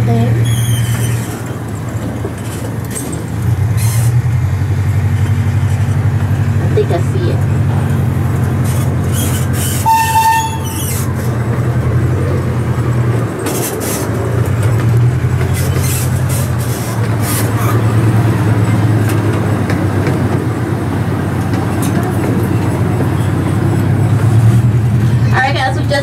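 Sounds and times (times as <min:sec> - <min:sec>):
clatter from train cars: 0:00.0 - 0:26.0
ride train engine drone: 0:00.0 - 0:26.0.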